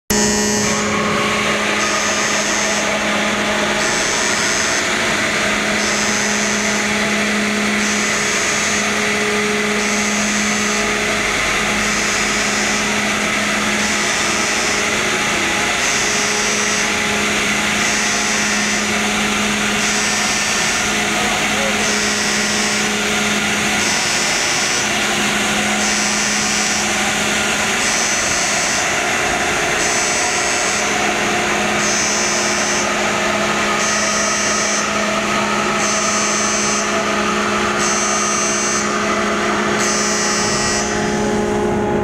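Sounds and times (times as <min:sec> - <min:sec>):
loud machinery hum: 0:00.0 - 0:42.0
high tone beeping: 0:00.1 - 0:29.0, 0:29.7 - 0:42.0.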